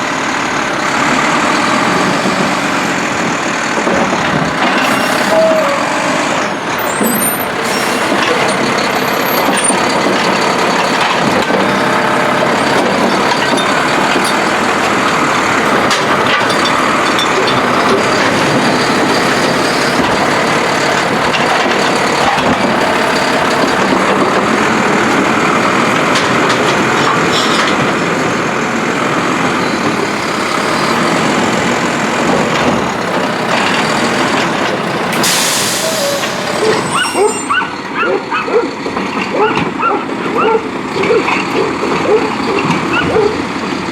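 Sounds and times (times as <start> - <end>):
garbage truck engine running: 0.0 - 43.9.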